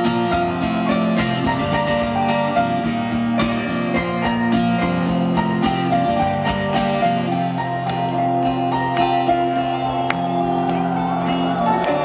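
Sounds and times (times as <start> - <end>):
electric guitars: 0.0 - 12.0
rock band playing: 0.0 - 12.0.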